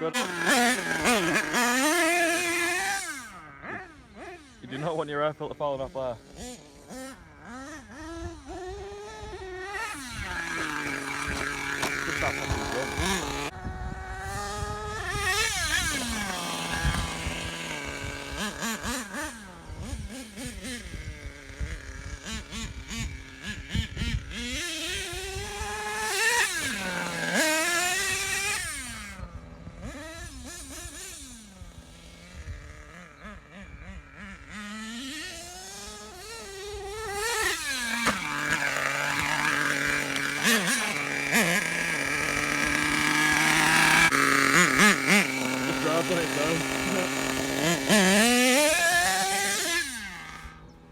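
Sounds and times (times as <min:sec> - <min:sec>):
small nitro engine revving: 0:00.0 - 0:50.9.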